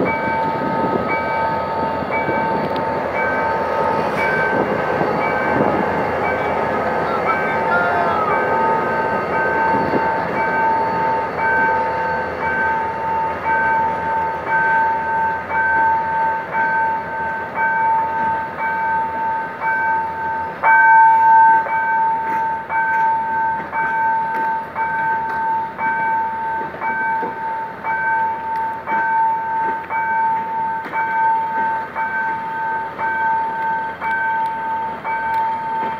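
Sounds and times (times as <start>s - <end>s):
level crossing warning bell: 0.0s - 35.9s
train coaches rolling past: 0.0s - 35.9s.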